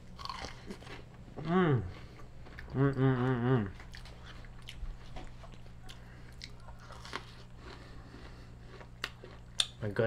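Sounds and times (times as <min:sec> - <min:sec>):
crunching and chewing: 0:00.0 - 0:10.0.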